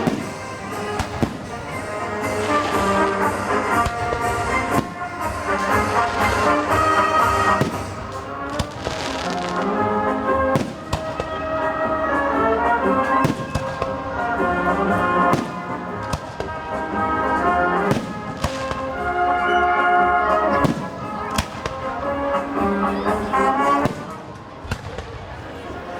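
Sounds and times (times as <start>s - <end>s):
brass music: 0.0s - 24.5s
fireworks banging: 0.0s - 25.6s.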